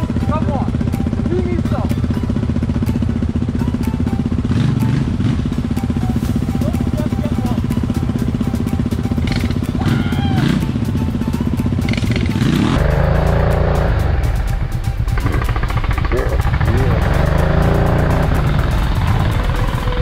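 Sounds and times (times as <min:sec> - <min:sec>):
quad bike engine idling and revving: 0:00.0 - 0:20.0.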